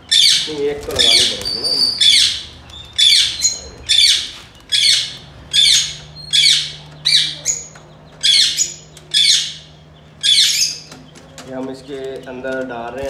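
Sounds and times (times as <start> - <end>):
bird squawking: 0.0 - 11.1.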